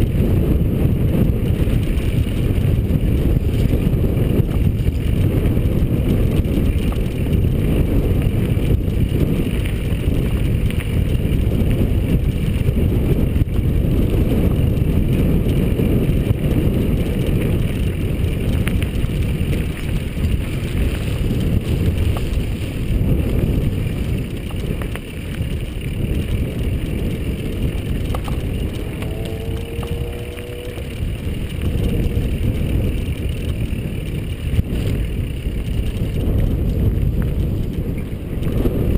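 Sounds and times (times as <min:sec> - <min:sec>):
bike tyres rumbling on dirt: 0:00.0 - 0:38.9
wind on microphone: 0:00.0 - 0:38.9.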